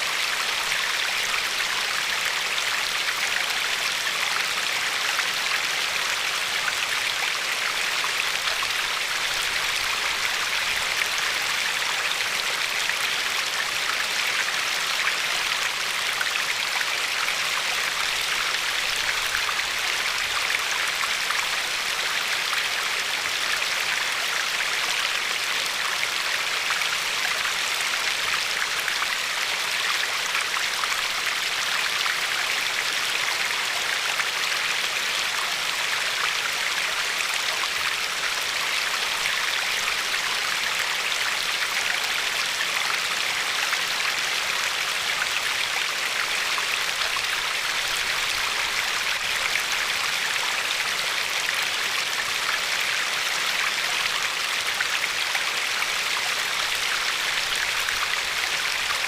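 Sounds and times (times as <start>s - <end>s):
river water flowing over pebbles: 0.0s - 59.0s.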